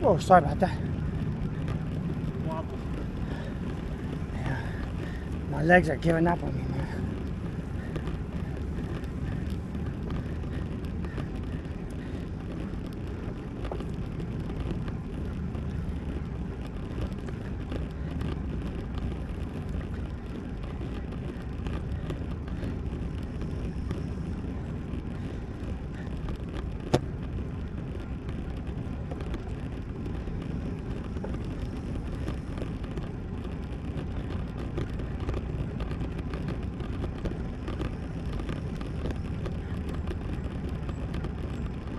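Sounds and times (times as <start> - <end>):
wind and tyre noise: 0.0 - 41.9.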